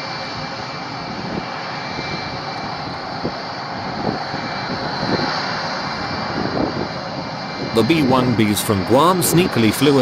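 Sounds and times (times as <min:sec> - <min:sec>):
high engine whine: 0:00.0 - 0:10.0
jet engines rushing noise: 0:00.0 - 0:10.0.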